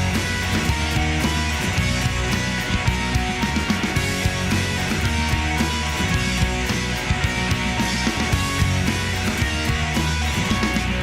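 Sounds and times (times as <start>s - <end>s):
drum kit: 0.0s - 11.0s
electric guitar: 0.0s - 11.0s.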